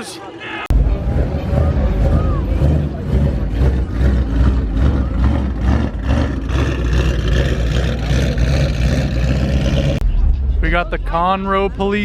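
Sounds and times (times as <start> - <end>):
car exhaust deep steady note: 0.7 - 12.0.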